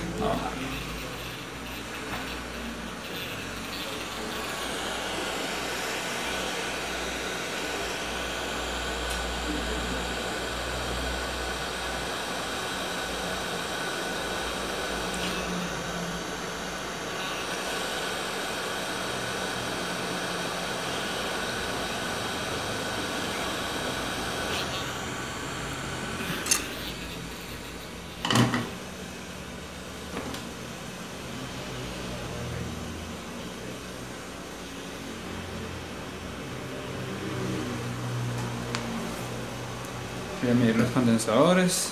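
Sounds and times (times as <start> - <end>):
hot-air station hissing: 0.0 - 41.9.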